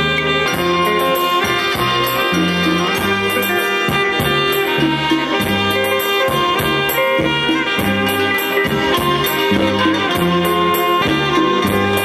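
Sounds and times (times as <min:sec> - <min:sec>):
musical accompaniment with bass line: 0:00.0 - 0:12.0
saxophone melody: 0:00.0 - 0:12.0.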